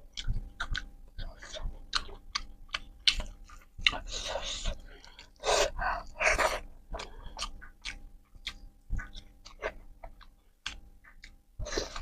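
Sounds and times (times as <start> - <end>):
wet chewing mouth clicks: 0.0 - 5.4, 6.1 - 12.0.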